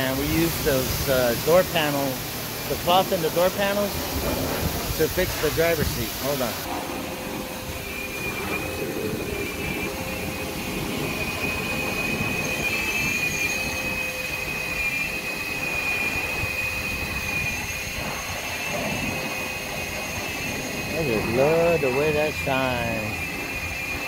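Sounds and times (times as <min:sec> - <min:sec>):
car wash hiss: 0:00.0 - 0:24.0
low hum: 0:00.0 - 0:24.0
machine whine: 0:00.0 - 0:24.0.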